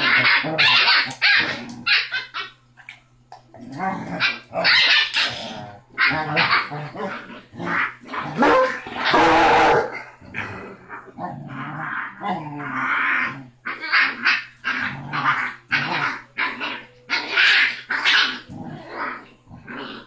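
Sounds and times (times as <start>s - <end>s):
puppy barking and growling: 0.0s - 2.6s, 3.6s - 20.0s.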